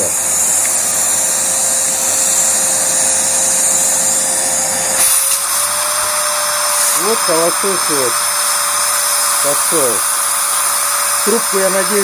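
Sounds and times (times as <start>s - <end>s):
air rushing with whine: 0.0s - 12.0s
vacuum cleaner running: 0.0s - 12.0s.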